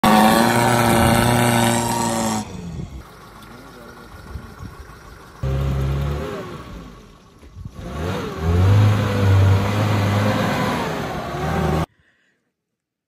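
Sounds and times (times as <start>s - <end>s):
vehicle engine revving: 0.0s - 11.9s.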